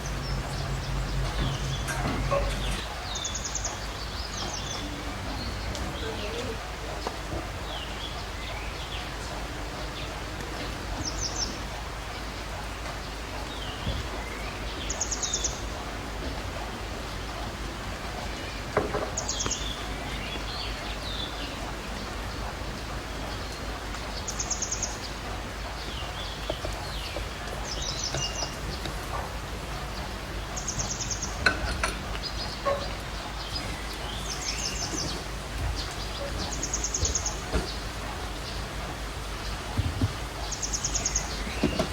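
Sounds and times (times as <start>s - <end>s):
steady background noise: 0.0s - 41.9s.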